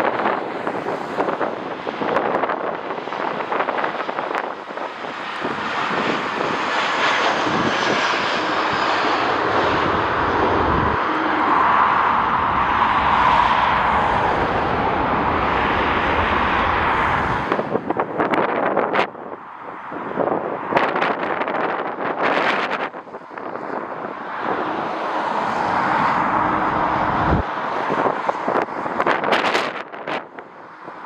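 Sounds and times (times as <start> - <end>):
jet airliner passing: 0.0 - 31.0
wind buffeting microphone: 0.0 - 31.0.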